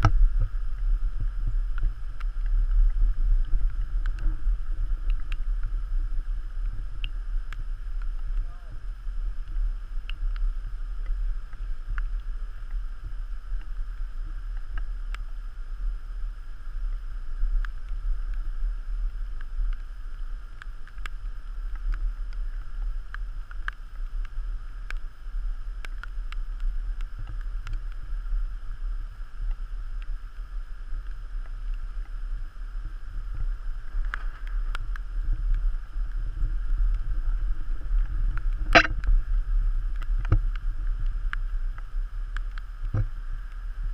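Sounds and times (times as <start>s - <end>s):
low wind rumble: 0.0s - 43.9s
water swishing along hull: 0.0s - 43.9s.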